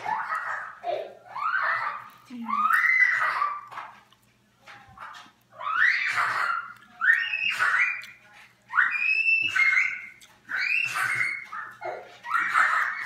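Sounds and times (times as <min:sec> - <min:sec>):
high-pitched cries: 0:00.0 - 0:03.8, 0:05.6 - 0:13.0.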